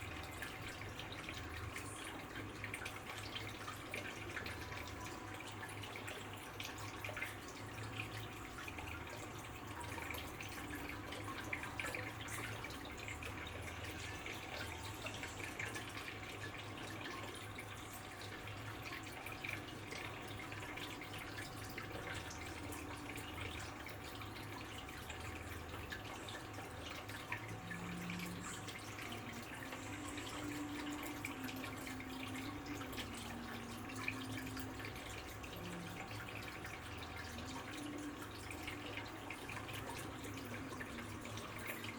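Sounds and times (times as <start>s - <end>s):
water trickling and dripping: 0.0s - 41.9s.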